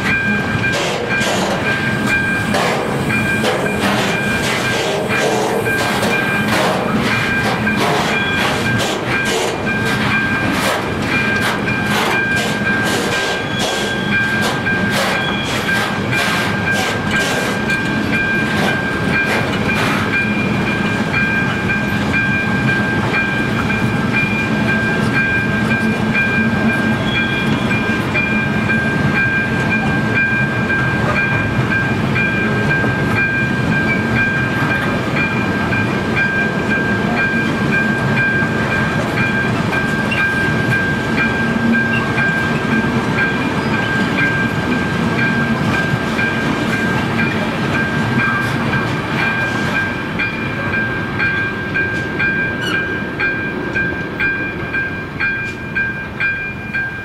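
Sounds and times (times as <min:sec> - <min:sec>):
freight wagons rumbling: 0:00.0 - 0:56.7
electronic crossing bell ringing: 0:00.0 - 0:57.0
train wheel clacks: 0:00.0 - 0:57.0.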